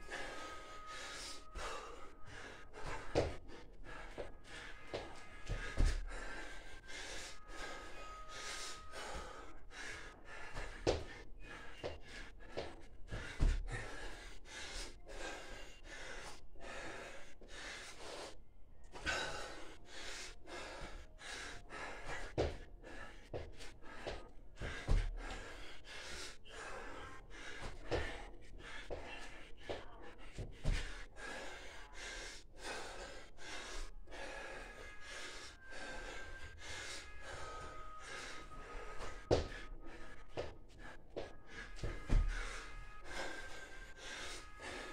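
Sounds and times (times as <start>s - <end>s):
man panting: 0.0s - 44.9s.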